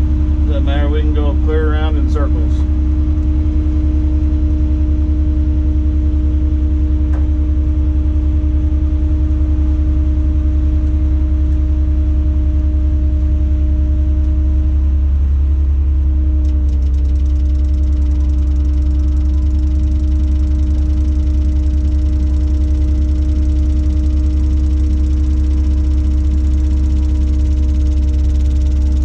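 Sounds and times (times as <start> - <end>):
crane engine running: 0.0 - 29.0
steady hum: 0.0 - 29.0.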